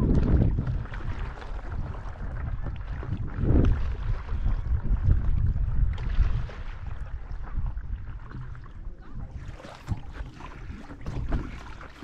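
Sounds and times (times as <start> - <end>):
paddle swishing water: 0.0 - 12.0
wind rumbling on microphone: 0.0 - 12.0.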